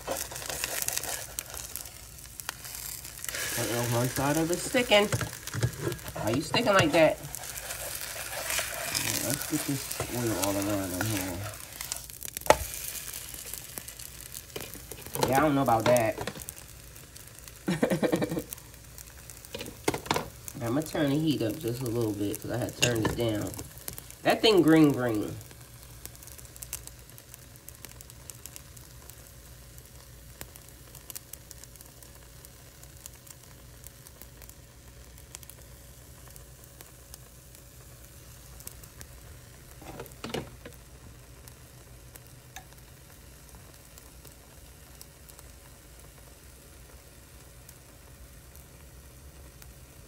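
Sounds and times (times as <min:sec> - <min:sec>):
batter sizzling in oil: 0:00.0 - 0:50.0
oil popping and crackling: 0:00.0 - 0:50.0.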